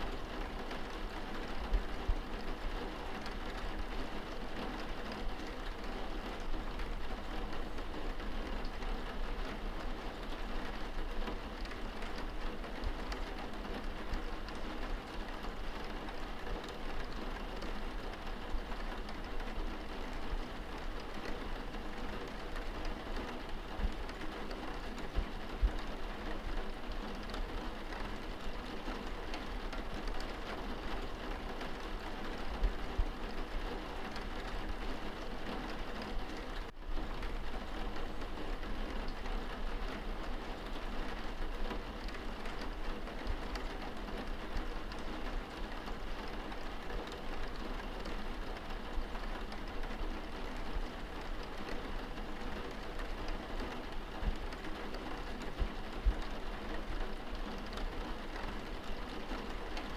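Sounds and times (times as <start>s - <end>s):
rain pattering on window glass: 0.0s - 59.9s.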